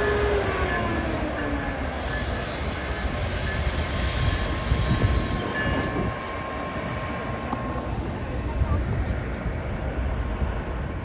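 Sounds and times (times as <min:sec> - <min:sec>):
train rumble: 0:00.0 - 0:11.0
thin steady whine: 0:00.6 - 0:11.0.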